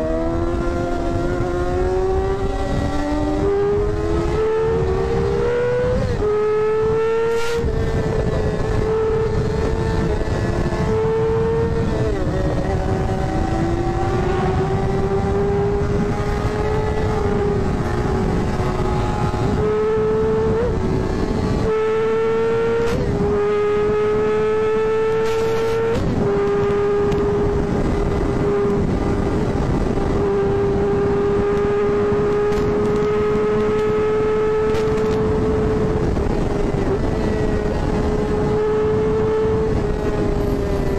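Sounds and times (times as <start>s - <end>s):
engine at high revs: 0.0s - 40.9s
road noise: 0.0s - 40.9s
rushing wind: 0.0s - 40.9s.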